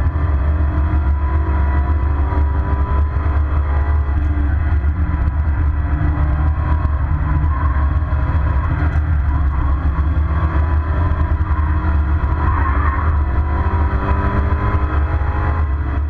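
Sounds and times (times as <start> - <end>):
car engine drone from cabin: 0.0 - 16.0
road noise: 0.0 - 16.0.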